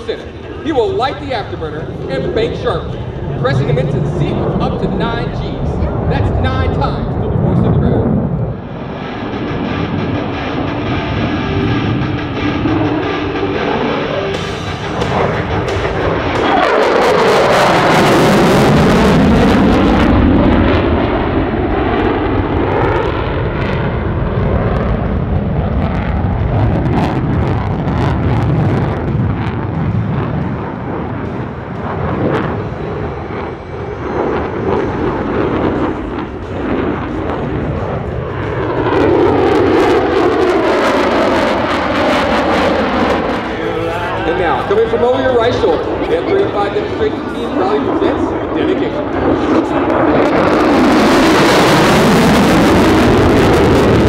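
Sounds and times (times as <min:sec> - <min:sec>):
fighter jet engine noise: 0:00.0 - 0:54.0.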